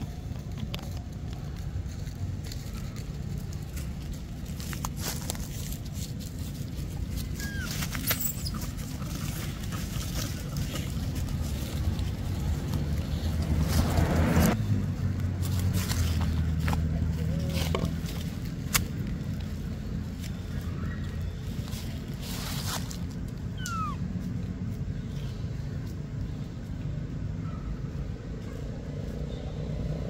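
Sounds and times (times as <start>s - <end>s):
steady low rumble: 0.0s - 28.3s
dry leaves crackling underfoot: 0.0s - 30.0s.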